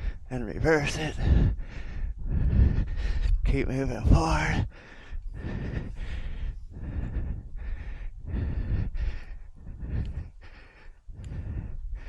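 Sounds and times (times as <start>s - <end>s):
wind buffeting microphone: 0.0s - 10.4s
person breathing hard: 0.0s - 12.0s.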